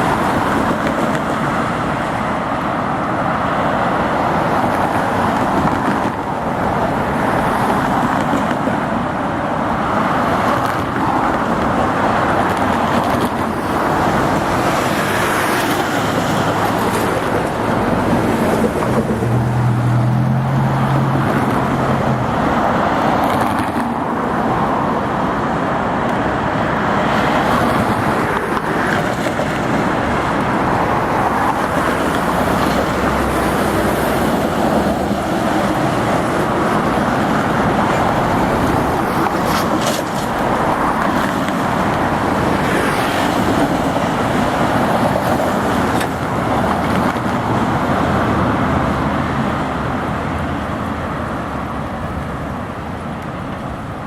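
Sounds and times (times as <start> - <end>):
heavy road traffic passing: 0.0 - 54.0.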